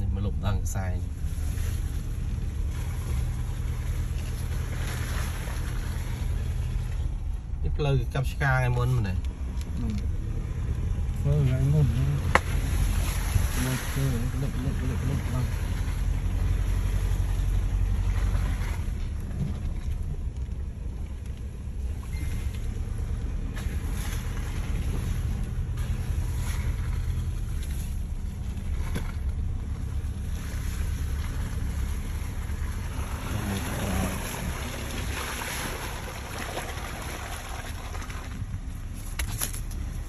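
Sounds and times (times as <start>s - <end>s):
engine and tyres rumbling: 0.0s - 40.0s.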